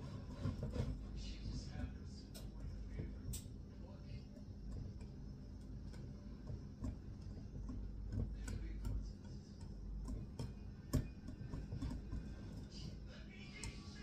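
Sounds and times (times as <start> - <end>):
whisk beating in bowl: 0.0 - 14.0.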